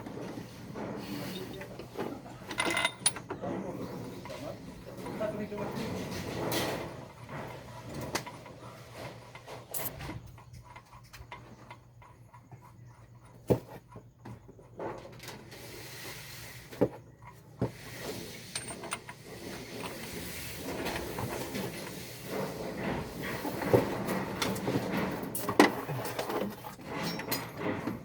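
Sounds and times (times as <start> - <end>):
hand tools and metal parts clinking: 0.1 - 15.6, 16.7 - 28.0.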